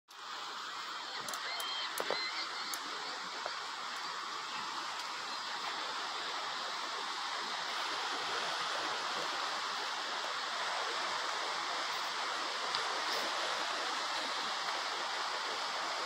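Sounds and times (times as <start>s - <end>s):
river water rushing: 0.1s - 16.0s.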